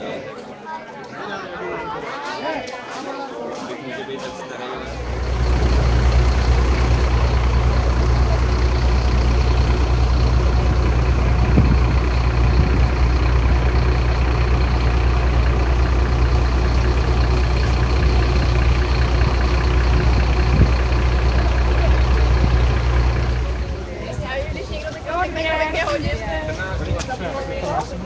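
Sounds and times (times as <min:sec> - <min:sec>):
vehicle engine humming: 0:04.8 - 0:28.0.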